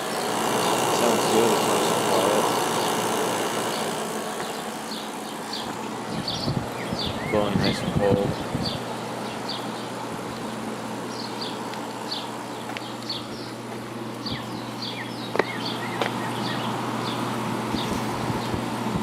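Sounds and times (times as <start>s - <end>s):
air conditioner humming: 0.0s - 19.0s
fan air rushing: 0.0s - 19.0s.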